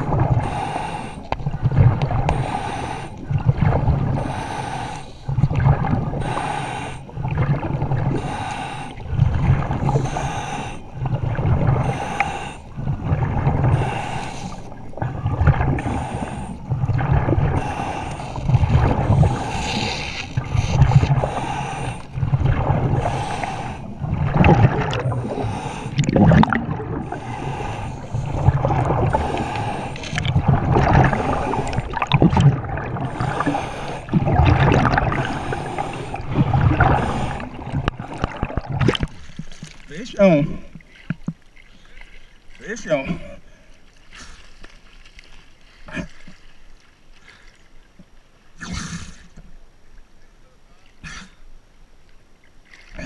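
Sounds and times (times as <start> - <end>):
underwater bubbling and hiss: 0.0 - 46.3, 47.1 - 49.5
rhythmic underwater rumbling swish: 0.0 - 47.2.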